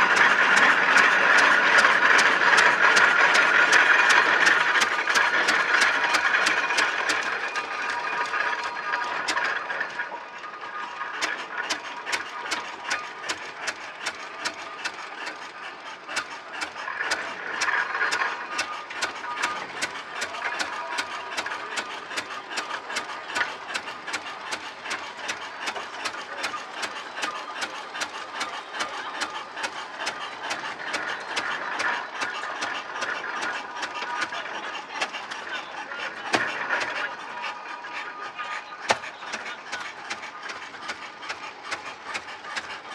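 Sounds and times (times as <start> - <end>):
engine running with mechanical clatter: 0.0 - 42.9.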